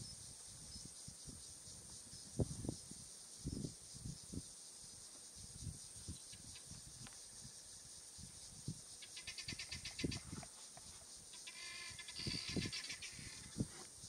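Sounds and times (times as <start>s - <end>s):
high-pitched insect hiss: 0.0s - 14.0s.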